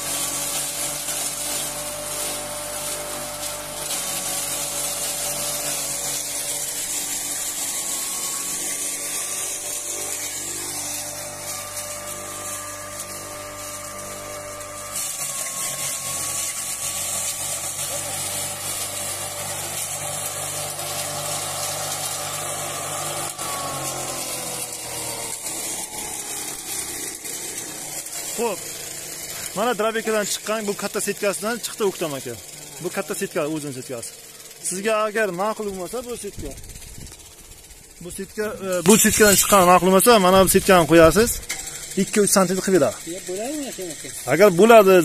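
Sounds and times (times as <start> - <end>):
hiss of chopped stalks blowing out: 0.0 - 45.0
motor whine: 0.0 - 45.0.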